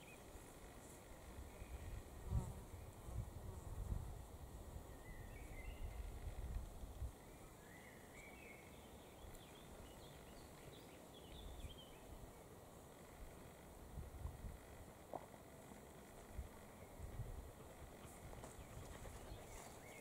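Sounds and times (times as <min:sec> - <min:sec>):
faint birdsong twittering: 0:00.0 - 0:03.3, 0:04.5 - 0:20.0.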